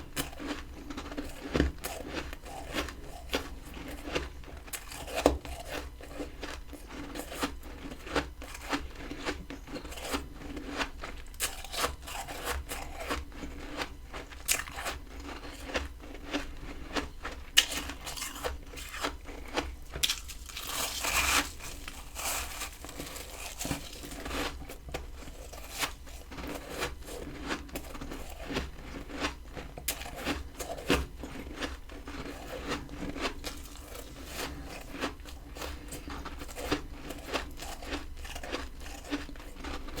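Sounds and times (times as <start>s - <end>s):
ice being chewed with crunches: 0.0s - 40.0s.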